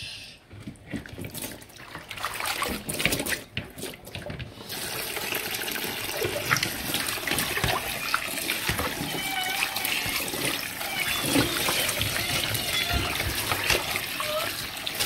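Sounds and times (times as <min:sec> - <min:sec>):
tap water splashing into colander: 0:00.9 - 0:15.0.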